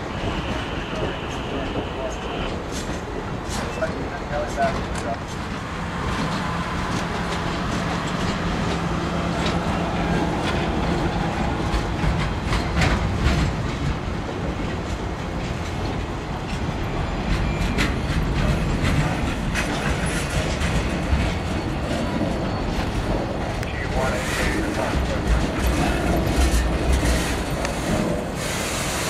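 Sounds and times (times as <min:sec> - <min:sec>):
train wheels rumbling on rail: 0:00.0 - 0:29.0
wheels clicking over rail joints: 0:02.7 - 0:29.0.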